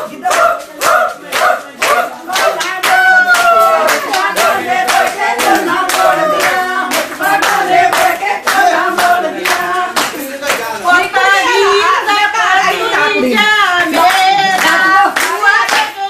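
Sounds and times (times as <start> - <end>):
rhythmic hand clapping: 0.0 - 16.0
women singing as a group: 0.0 - 16.0.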